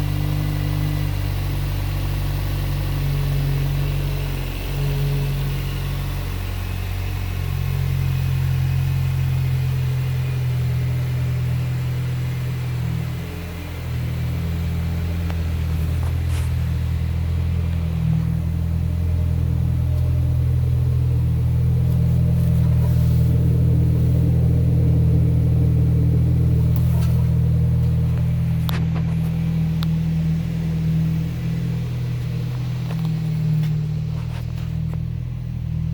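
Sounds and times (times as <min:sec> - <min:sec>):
car engine running: 0:00.0 - 0:35.9.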